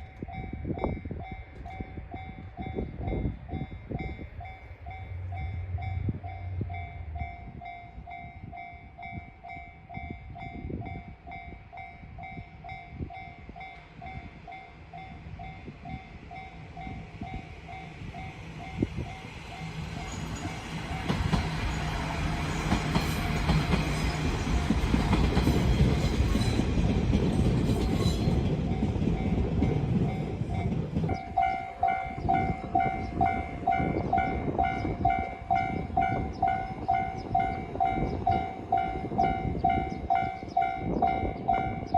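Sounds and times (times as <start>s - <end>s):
railroad crossing alarm ringing: 0.0s - 26.6s, 27.9s - 41.9s
train passing: 0.0s - 41.9s.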